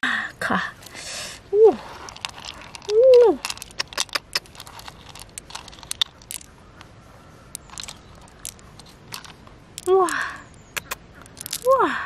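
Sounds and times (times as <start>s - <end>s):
pearls clicking together: 1.9s - 12.0s.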